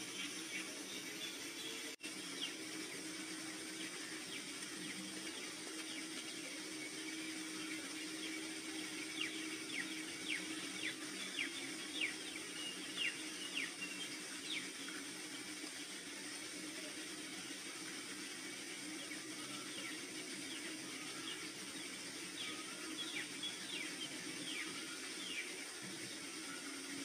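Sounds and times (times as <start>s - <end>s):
birds chirping: 0.0s - 27.0s
soft ambient drone: 0.0s - 27.0s.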